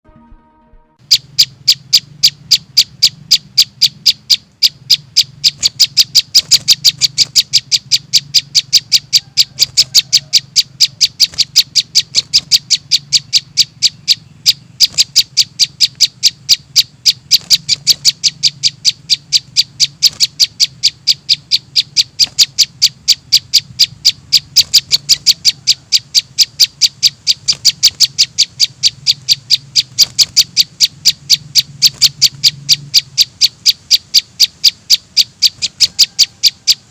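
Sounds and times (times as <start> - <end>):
faint low hum: 0.1 - 36.9
bird chicks chirping: 1.0 - 36.9.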